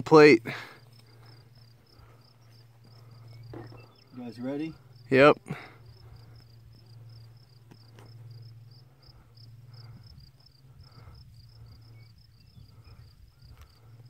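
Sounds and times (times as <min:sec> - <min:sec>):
insect chirping: 0:00.0 - 0:14.0
low steady hum: 0:00.0 - 0:14.0.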